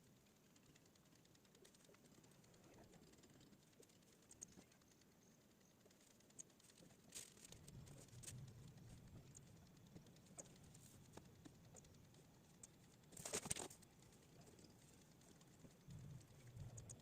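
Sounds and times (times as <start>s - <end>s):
computer clicks: 0.6s - 17.0s.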